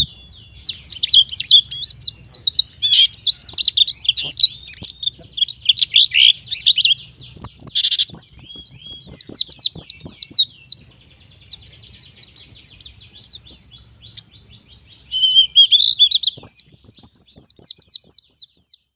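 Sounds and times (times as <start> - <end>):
bird twittering song: 0.0 - 18.9.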